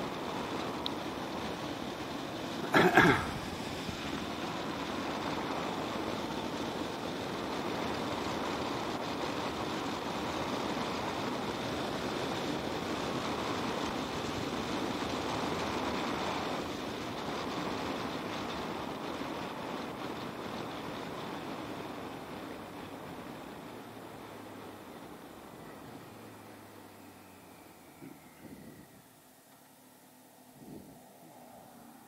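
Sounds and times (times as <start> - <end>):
wind rush and road noise: 0.0 - 32.0.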